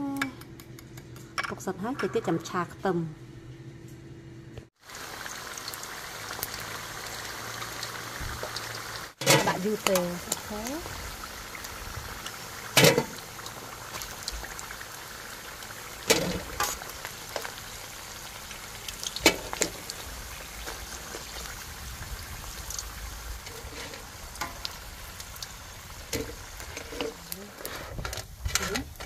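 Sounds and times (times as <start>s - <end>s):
deep-frying sizzle with pops: 4.7s - 29.0s.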